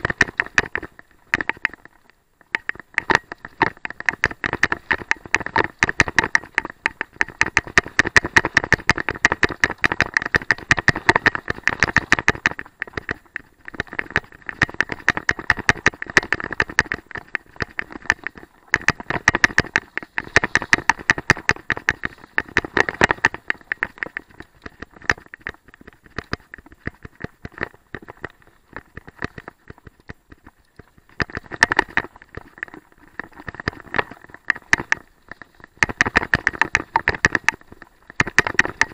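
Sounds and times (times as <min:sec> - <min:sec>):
mountain bike rattling and clicking: 0:00.0 - 0:38.9.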